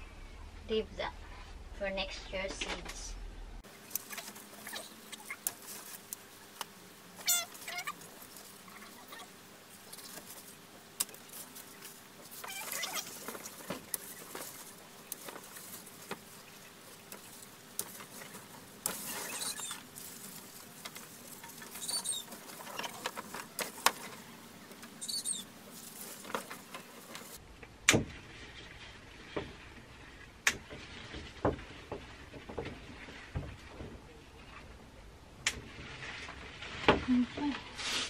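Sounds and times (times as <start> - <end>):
leaves and vines rustling: 3.6 - 35.0, 35.6 - 38.0.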